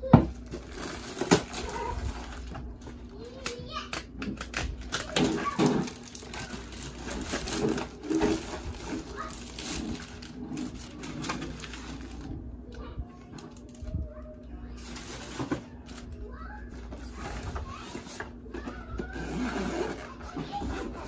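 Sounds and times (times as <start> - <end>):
plastic bag rustling and crinkling: 0.1 - 3.8, 4.4 - 21.0.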